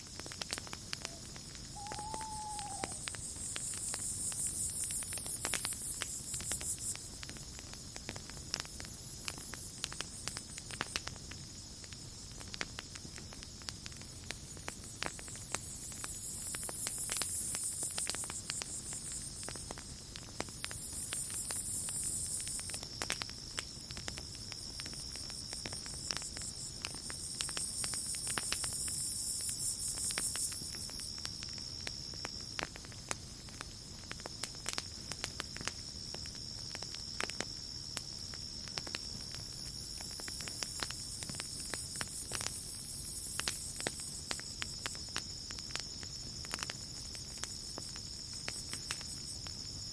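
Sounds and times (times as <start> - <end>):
high insect trill: 0.0 - 12.3, 14.0 - 49.9
campfire crackling and popping: 0.0 - 49.9.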